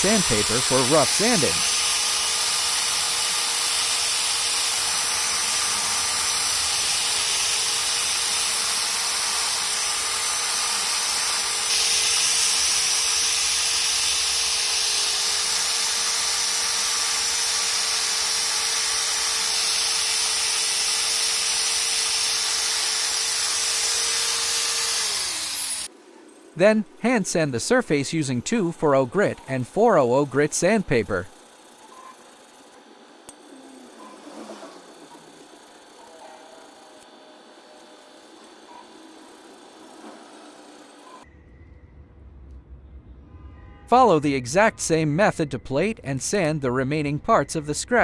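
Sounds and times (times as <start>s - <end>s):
gritty sanding hiss: 0.0s - 12.8s, 14.9s - 41.2s
belt sander whining: 0.0s - 41.2s.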